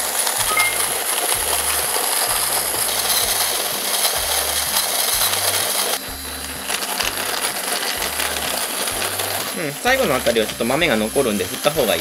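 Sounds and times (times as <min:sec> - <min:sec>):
electric coffee grinder crunching beans: 0:00.0 - 0:12.0.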